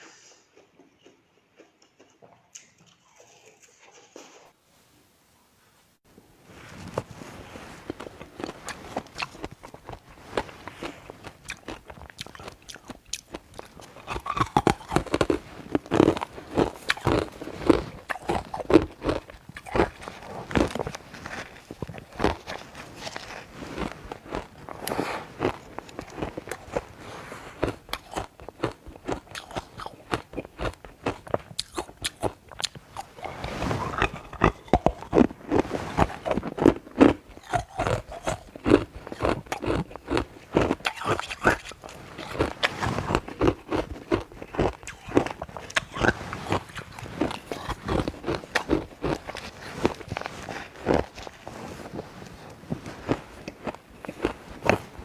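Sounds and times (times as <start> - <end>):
person chewing ice: 7.0 - 55.0.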